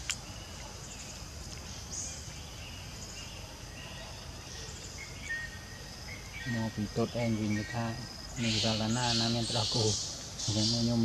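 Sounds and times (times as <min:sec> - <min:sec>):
faint chirps: 0:00.0 - 0:11.0
insects droning: 0:00.0 - 0:11.0.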